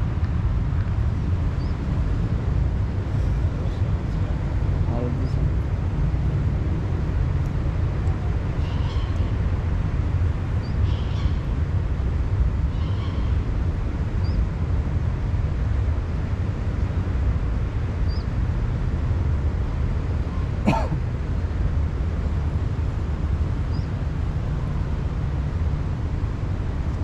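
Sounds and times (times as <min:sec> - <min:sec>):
low outdoor background rumble: 0:00.0 - 0:27.0.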